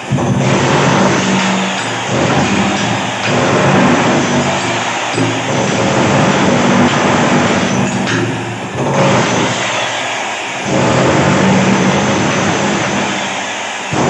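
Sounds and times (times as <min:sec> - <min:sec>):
demolition hammer breaking tiles: 0:00.0 - 0:14.0.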